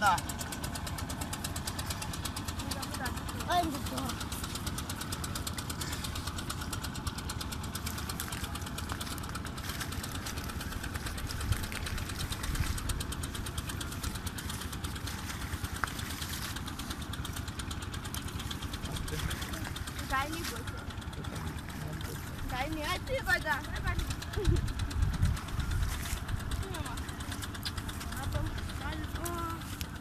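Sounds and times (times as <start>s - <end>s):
engine running low rumble: 0.0s - 30.0s.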